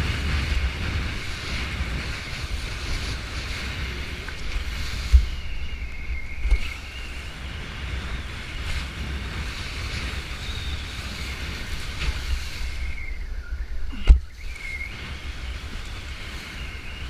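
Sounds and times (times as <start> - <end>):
water rushing: 0.0 - 17.0
wind buffeting microphone: 0.0 - 17.0.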